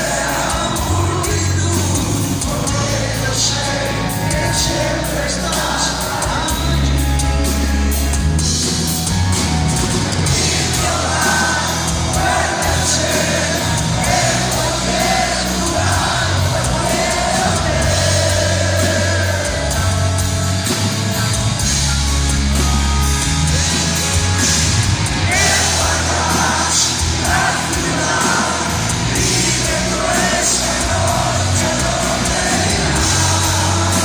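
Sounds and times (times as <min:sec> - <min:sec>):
live hard rock band: 0:00.0 - 0:34.0.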